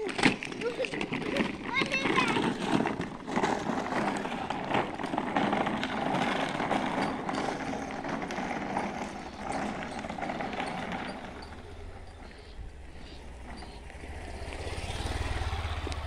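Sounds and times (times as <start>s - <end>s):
plastic wheels rolling on gravel: 0.0s - 16.0s.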